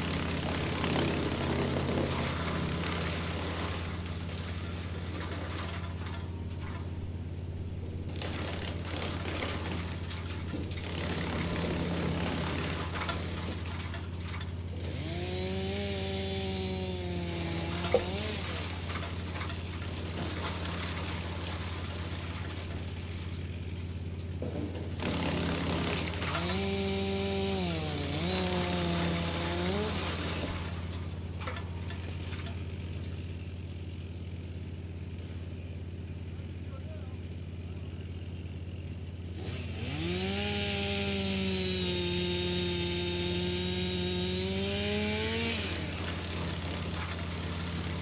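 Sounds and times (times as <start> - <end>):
wood chipper engine running: 0.0 - 48.0.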